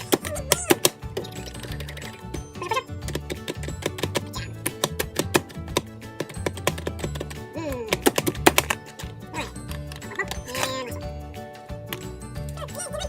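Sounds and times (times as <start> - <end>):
music with bass and clicking beat: 0.0 - 10.8.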